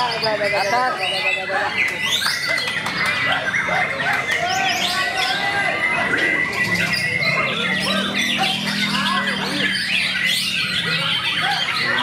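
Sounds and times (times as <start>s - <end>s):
chorus of bird whistles and trills: 0.0s - 12.0s
murmur of voices: 0.0s - 12.0s
songbird singing: 0.0s - 12.0s.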